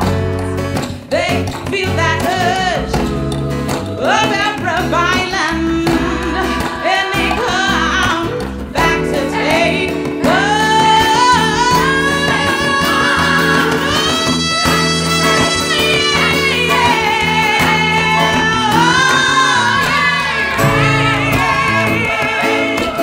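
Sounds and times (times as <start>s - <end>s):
instrumental accompaniment: 0.0s - 23.0s
woman singing: 1.0s - 23.0s.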